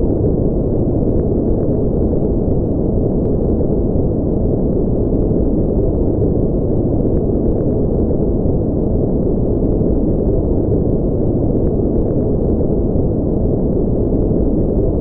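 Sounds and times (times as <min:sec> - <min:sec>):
muffled white noise: 0:00.0 - 0:15.0.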